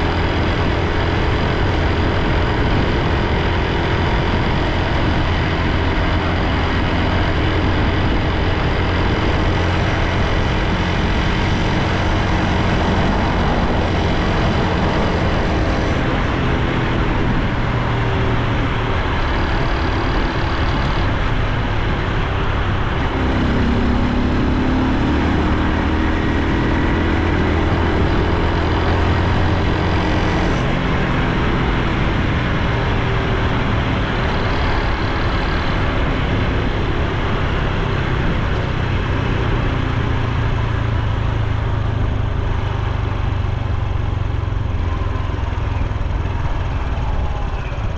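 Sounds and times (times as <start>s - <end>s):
motorcycle engine running: 0.0s - 47.9s
road and wind noise: 0.0s - 47.9s.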